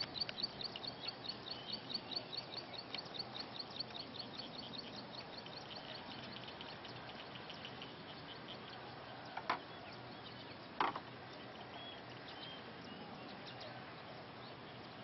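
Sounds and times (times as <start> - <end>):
faint high chirping: 0.0 - 15.0.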